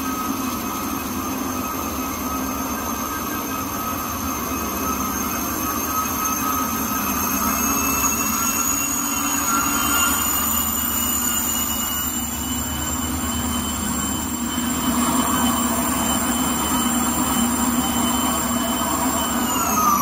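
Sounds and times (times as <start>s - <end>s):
high-pitched drive whines: 0.0s - 20.0s
machine humming: 0.0s - 20.0s.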